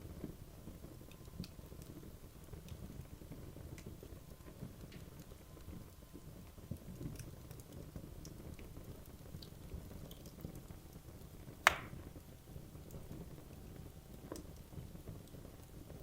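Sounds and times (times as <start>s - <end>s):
wood crackling and popping: 0.0s - 16.0s.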